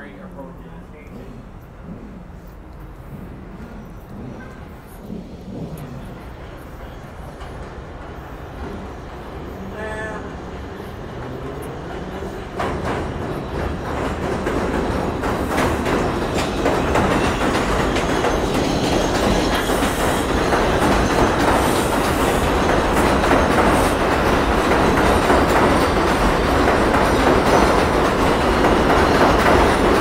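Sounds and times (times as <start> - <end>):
train wheels clattering over rails: 0.0 - 30.0.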